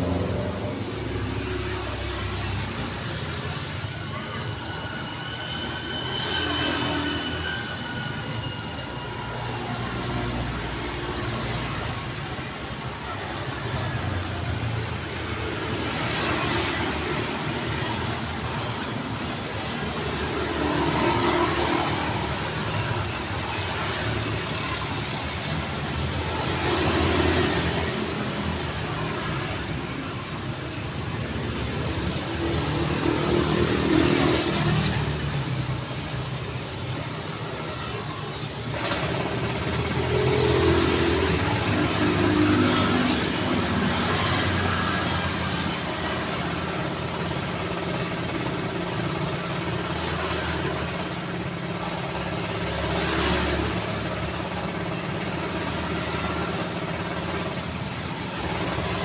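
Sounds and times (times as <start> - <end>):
high-pitched squeal: 0.0 - 54.9
vehicles passing close by: 0.0 - 59.0.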